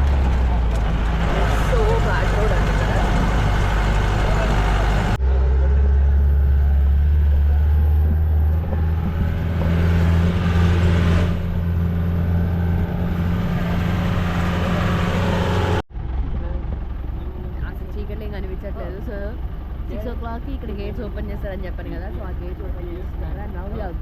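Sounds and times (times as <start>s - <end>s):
jeep engine droning: 0.0s - 24.0s.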